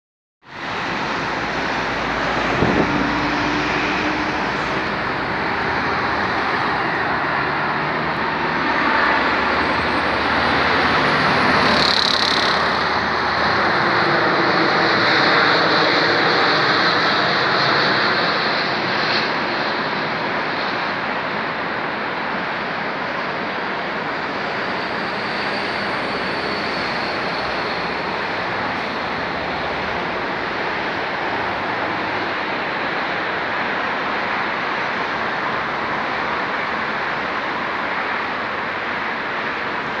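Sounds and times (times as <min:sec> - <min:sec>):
jet airliner passing overhead: 0:00.5 - 0:40.0.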